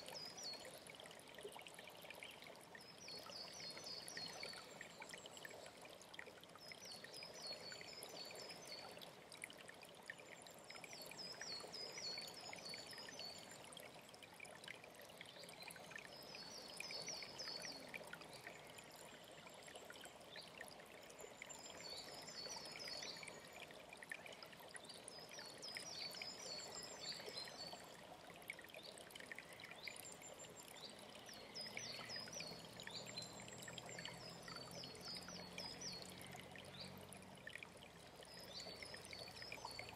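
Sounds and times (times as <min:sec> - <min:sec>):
songbird song phrase: 0:00.0 - 0:09.1, 0:10.4 - 0:39.9
mountain stream running: 0:00.0 - 0:39.9.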